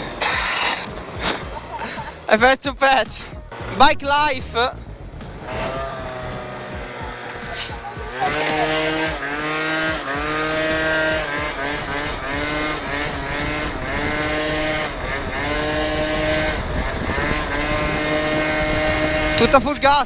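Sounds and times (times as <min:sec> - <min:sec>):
scooter engine revving: 0:00.0 - 0:20.0.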